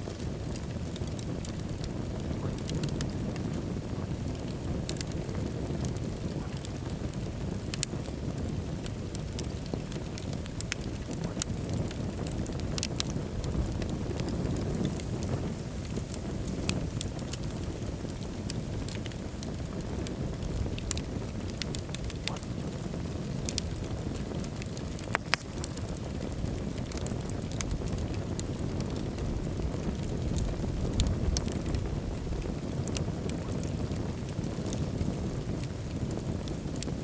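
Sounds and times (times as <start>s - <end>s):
fire crackling and popping: 0.0s - 37.0s
low rumble of flames: 0.0s - 37.0s.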